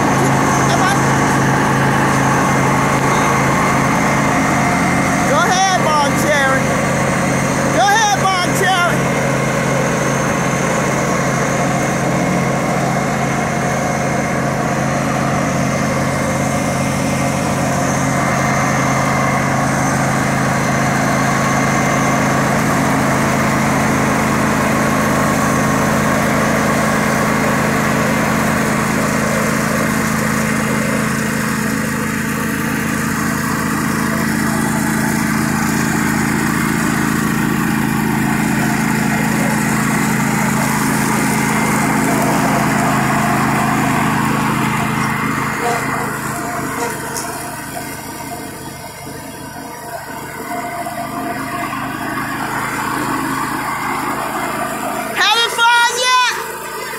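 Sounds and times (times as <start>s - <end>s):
riding lawn mower engine running: 0.0s - 56.9s.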